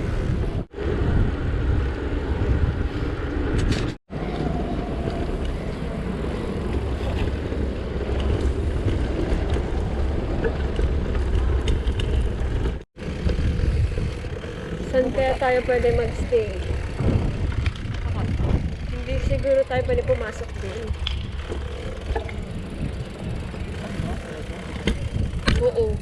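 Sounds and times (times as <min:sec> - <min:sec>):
traffic noise: 0:00.0 - 0:26.0
wind on microphone: 0:00.0 - 0:26.0.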